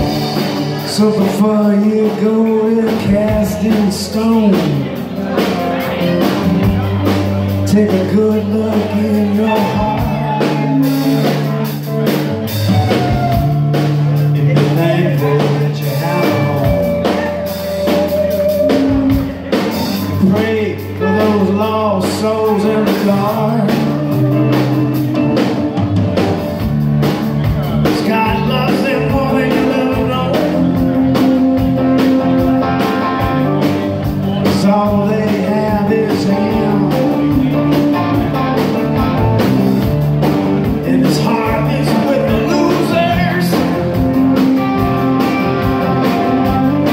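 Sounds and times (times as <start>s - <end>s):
drum kit: 0.0s - 46.9s
electric bass: 0.0s - 46.9s
electric guitars: 0.0s - 46.9s.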